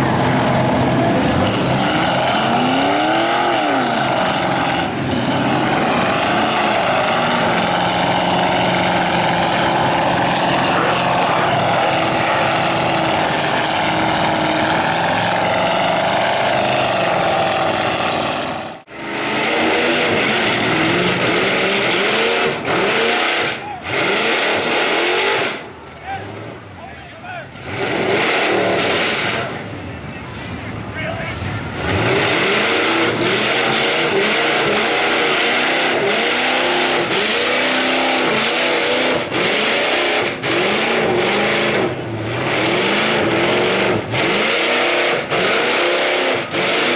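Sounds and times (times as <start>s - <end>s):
truck engines revving: 0.0s - 46.9s.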